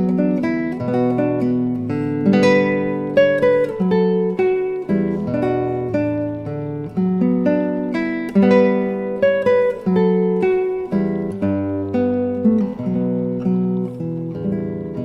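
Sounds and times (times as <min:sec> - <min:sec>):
plucked classical guitar: 0:00.0 - 0:15.0.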